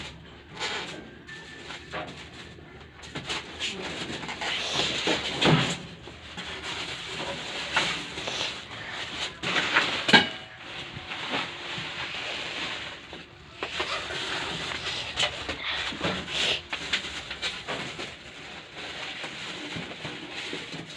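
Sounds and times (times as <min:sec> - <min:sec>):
objects knocking and clattering: 0:00.0 - 0:20.9.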